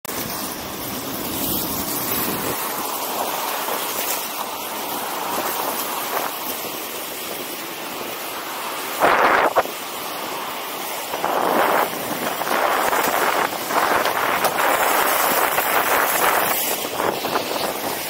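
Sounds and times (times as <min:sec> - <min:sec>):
skate wheels rolling on asphalt: 0:00.0 - 0:18.0
wind rushing over microphone: 0:00.1 - 0:18.0.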